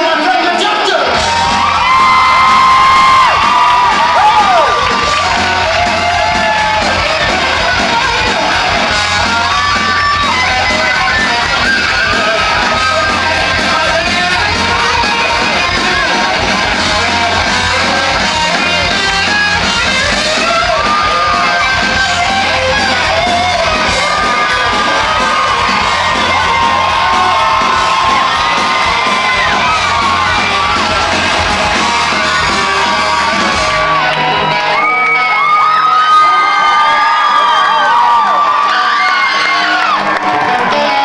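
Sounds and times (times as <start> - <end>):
fast drum beat: 0.0 - 34.1
rock band playing loudly: 0.0 - 41.0
electric guitar lead: 1.1 - 41.0.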